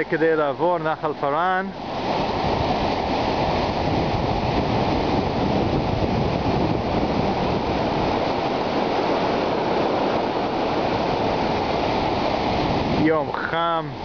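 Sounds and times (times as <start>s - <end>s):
turbulent water rushing: 0.0s - 14.0s.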